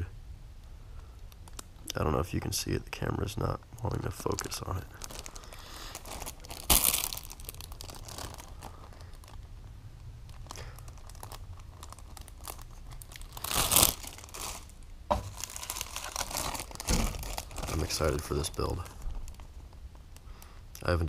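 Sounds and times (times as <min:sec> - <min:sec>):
plastic bags crinkling: 0:04.1 - 0:21.0.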